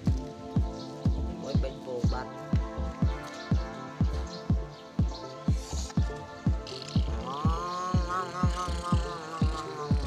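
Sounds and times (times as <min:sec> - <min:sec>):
music with bass drum beat: 0:00.0 - 0:10.0.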